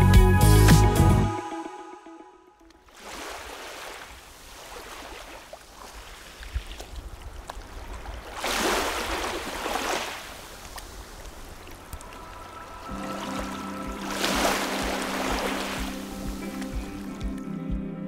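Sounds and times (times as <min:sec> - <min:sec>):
small waves washing onto sand: 0:02.8 - 0:17.4.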